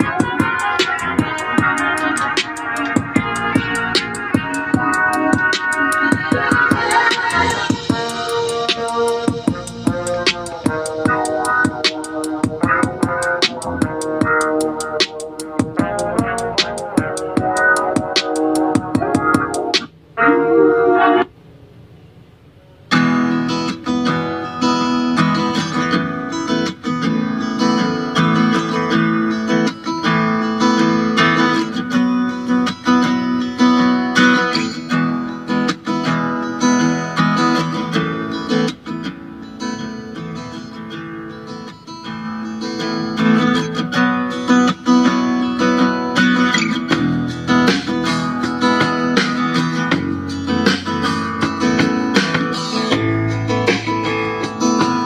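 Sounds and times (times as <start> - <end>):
acoustic guitar music: 0.0 - 55.0.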